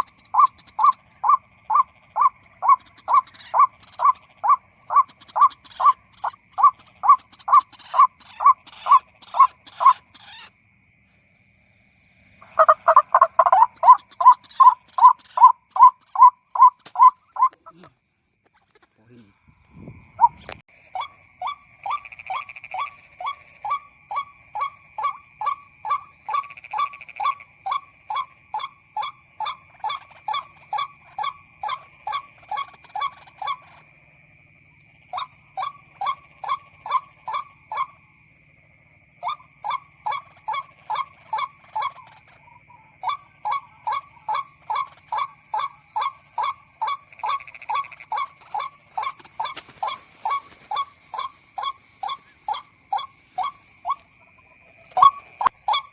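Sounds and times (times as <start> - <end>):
bird harsh repeated calls: 0.0 - 10.5, 12.4 - 17.9, 20.1 - 34.0, 35.1 - 38.0, 39.2 - 55.9.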